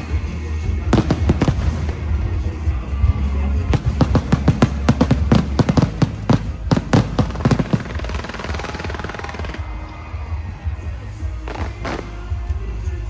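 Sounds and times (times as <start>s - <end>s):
fireworks bangs and crackles: 0.0s - 12.7s.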